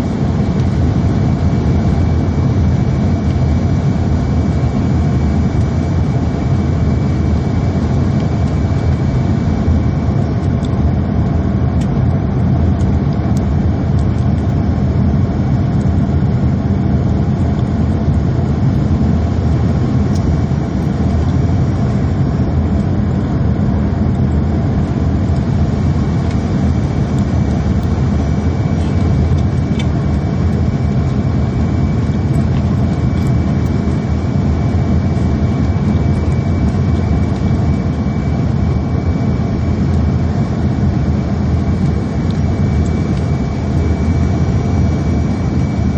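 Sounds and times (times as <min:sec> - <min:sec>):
jet engines droning: 0:00.0 - 0:45.9
thin steady whine: 0:00.0 - 0:45.9.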